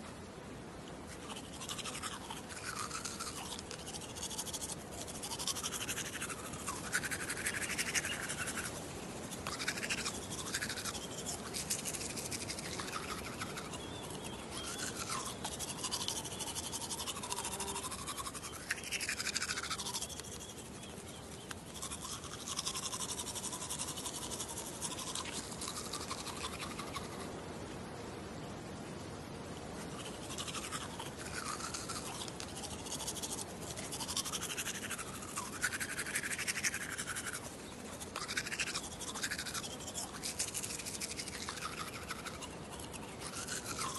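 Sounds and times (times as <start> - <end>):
toothbrush scrubbing teeth: 1.1 - 27.3, 29.8 - 43.9.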